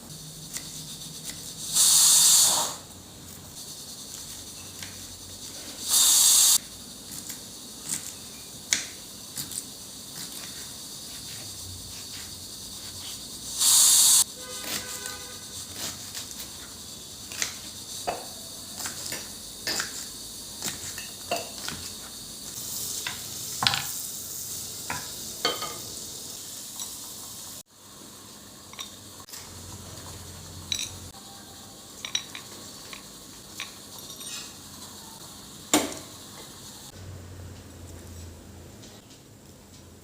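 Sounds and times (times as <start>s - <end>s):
food sizzling in a pan: 0.0s - 38.3s.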